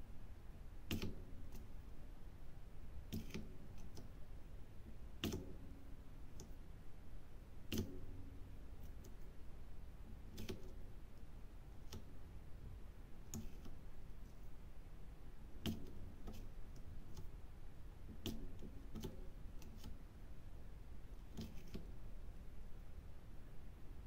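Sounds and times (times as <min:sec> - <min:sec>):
low steady background: 0:00.0 - 0:24.0.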